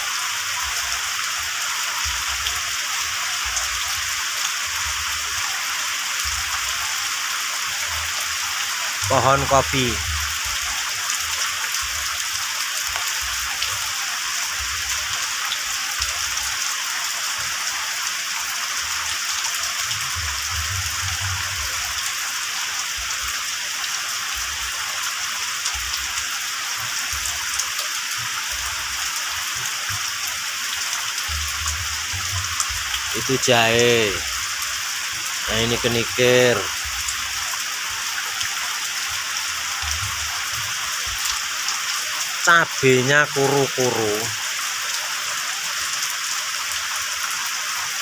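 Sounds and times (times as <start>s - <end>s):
heavy rain on leaves: 0.0s - 48.0s.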